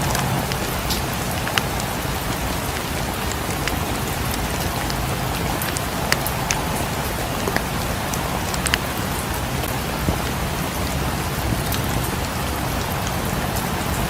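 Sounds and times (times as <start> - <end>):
rain falling: 0.0 - 14.0
wood fire crackles: 0.0 - 14.0.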